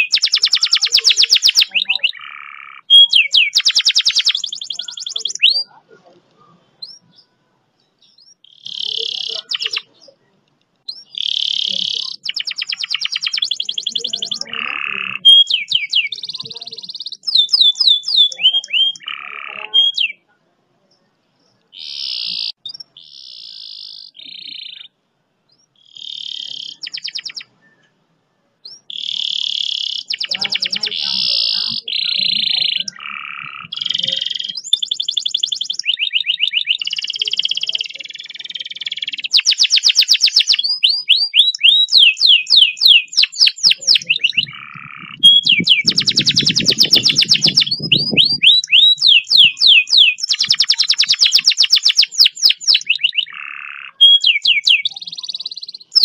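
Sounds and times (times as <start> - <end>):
canary singing trills: 0.0 - 28.0, 28.6 - 56.0.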